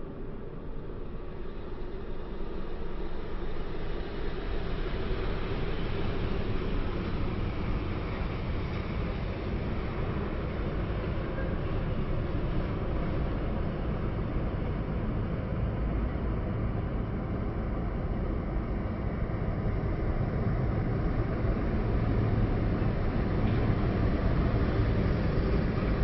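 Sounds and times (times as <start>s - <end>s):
low truck engine hum: 0.0s - 26.0s
traffic rumble: 0.0s - 26.0s.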